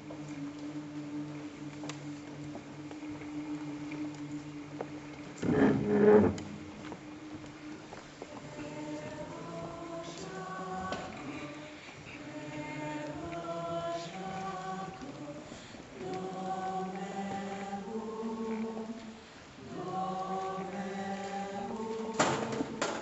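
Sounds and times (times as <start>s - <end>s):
group singing held notes: 0.0s - 23.0s.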